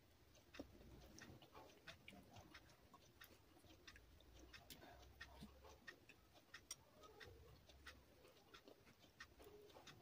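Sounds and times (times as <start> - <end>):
soft mouth sounds: 0.4 - 10.0.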